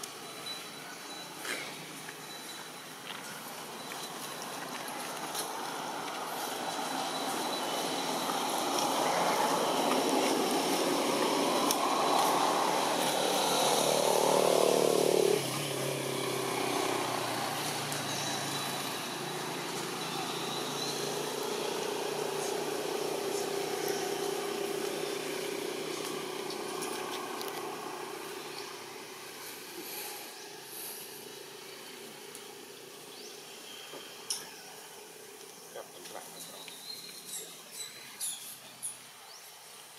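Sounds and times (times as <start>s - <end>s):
faint engine hum: 0.0s - 38.0s
vehicle engine and road rumble: 0.0s - 39.9s.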